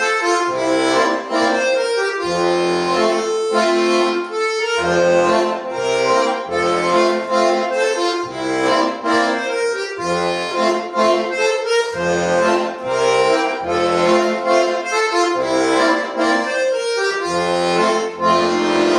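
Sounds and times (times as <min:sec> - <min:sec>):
accordion playing a polka: 0:00.0 - 0:18.9.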